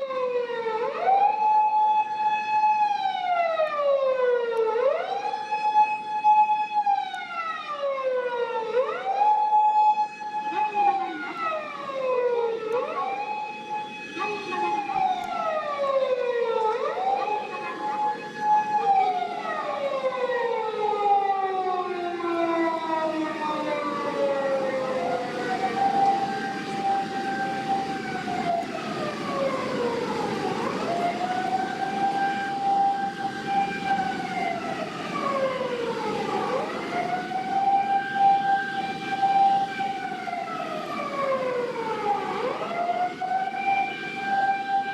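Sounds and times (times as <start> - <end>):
emergency vehicle sirens wailing: 0.0 - 44.9.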